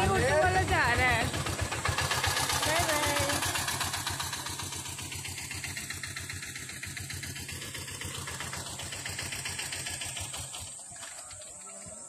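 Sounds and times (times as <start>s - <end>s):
single-cylinder engine idling: 0.0s - 12.0s.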